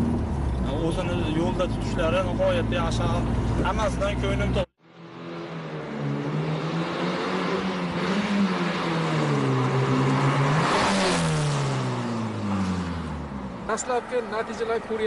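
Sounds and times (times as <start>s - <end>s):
car engine accelerating: 0.0s - 14.2s.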